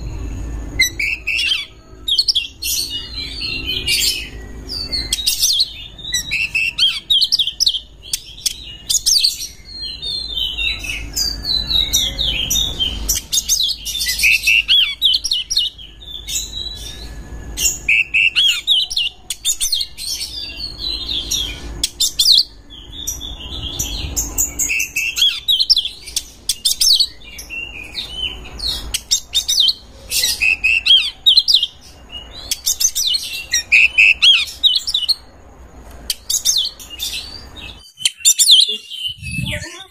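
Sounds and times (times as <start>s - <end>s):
magpie-robin singing: 0.0s - 35.3s, 36.1s - 39.9s.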